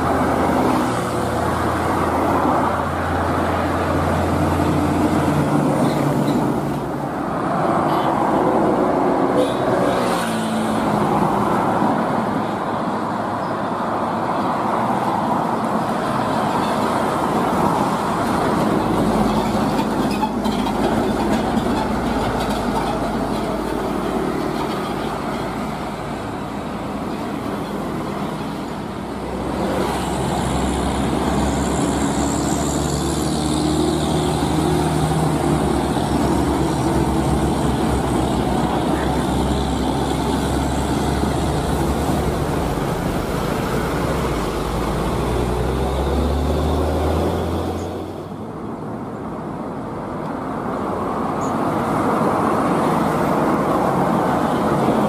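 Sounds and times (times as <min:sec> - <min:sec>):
diesel trucks driving past: 0:00.0 - 0:55.0.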